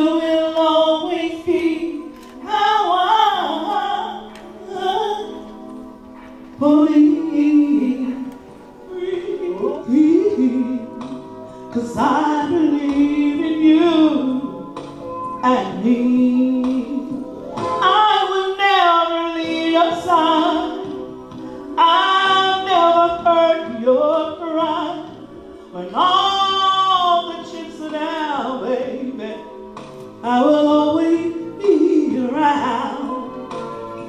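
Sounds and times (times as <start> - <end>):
woman singing: 0.0 - 5.5, 6.6 - 11.1, 11.7 - 14.5, 15.4 - 21.0, 21.8 - 29.4, 30.2 - 33.6.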